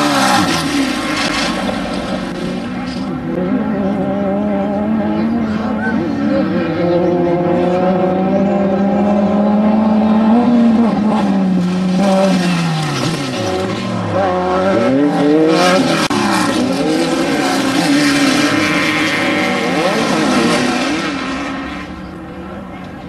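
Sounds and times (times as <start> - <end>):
race vehicle engines at speed: 0.0 - 23.0.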